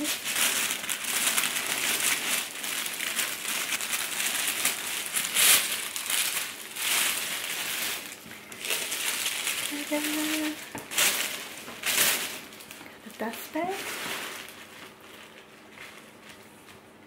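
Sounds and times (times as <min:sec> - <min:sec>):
tissue paper rustling: 0:00.0 - 0:16.9.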